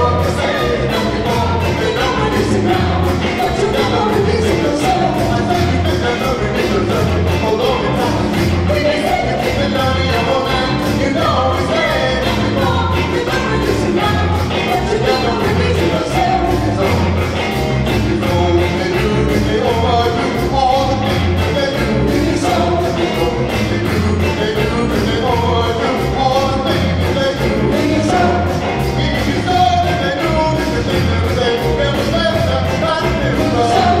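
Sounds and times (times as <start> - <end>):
band playing live: 0.0 - 34.0
man and woman singing: 0.0 - 34.0
repeating bass beat: 0.0 - 34.0.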